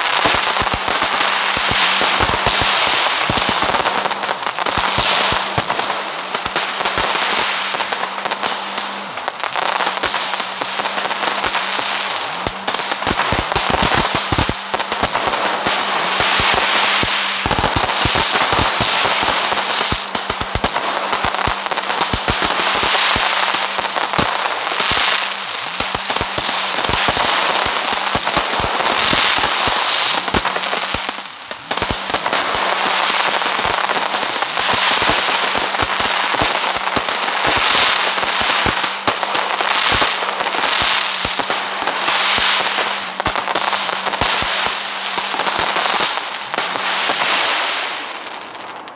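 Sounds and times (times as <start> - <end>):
faint steady hum: 0.0 - 48.9
firecrackers cracking and popping: 0.0 - 48.9.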